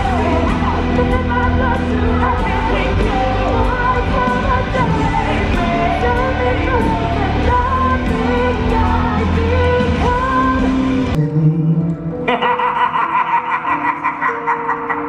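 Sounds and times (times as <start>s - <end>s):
different music: 0.0s - 15.0s
rock music with singing: 0.0s - 15.0s.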